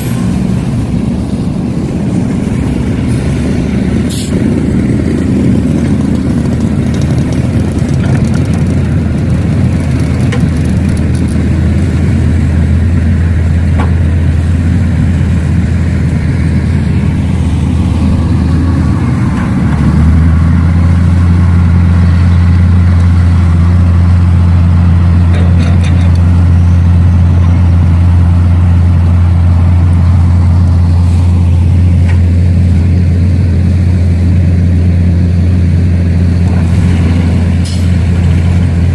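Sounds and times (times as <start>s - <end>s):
low engine-like drone: 0.0s - 38.9s.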